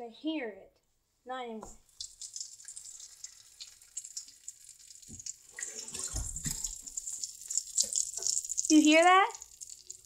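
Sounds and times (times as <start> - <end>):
popping candy fizzing and crackling: 1.8 - 10.0.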